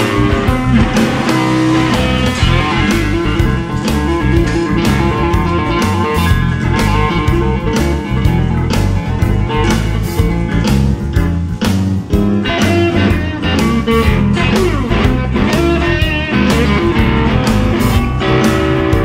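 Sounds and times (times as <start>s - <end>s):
drum beat: 0.0s - 18.2s
bass: 0.0s - 19.0s
electric guitar melody: 0.0s - 19.0s.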